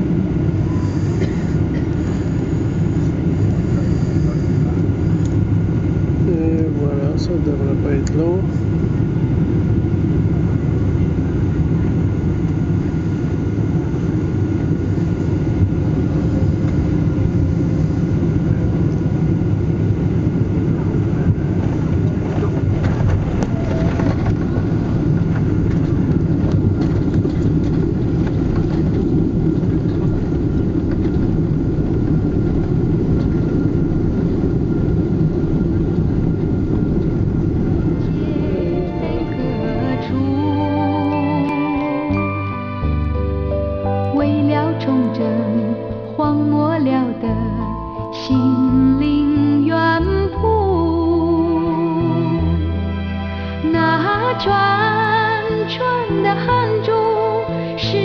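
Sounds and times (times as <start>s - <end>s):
airliner engine and airflow rumble: 0.0s - 58.0s.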